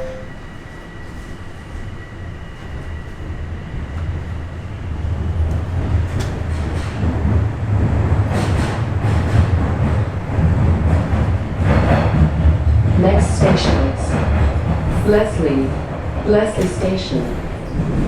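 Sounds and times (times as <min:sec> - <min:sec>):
high rail noise rush: 0:00.0 - 0:18.0
subway train pulling away: 0:00.0 - 0:18.0.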